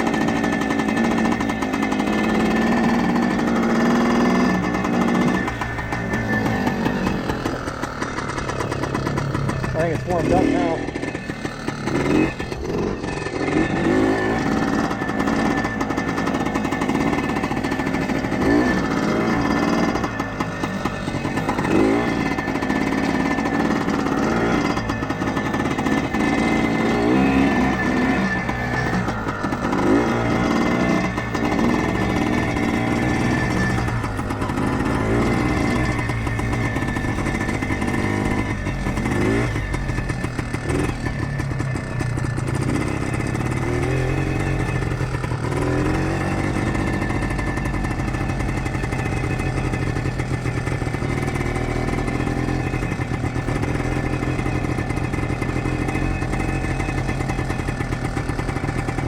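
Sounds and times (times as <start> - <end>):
two-stroke motorcycle engine running: 0.0 - 59.0.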